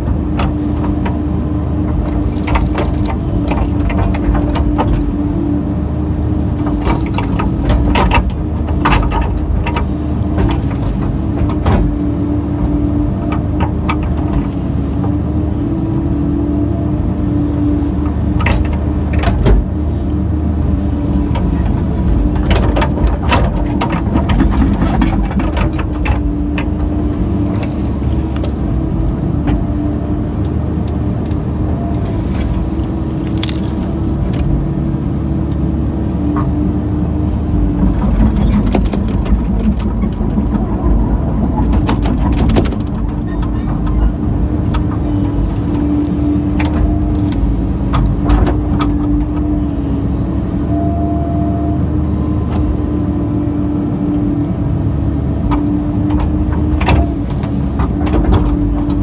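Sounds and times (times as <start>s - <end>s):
excavator engine and hydraulics droning: 0.0s - 59.0s.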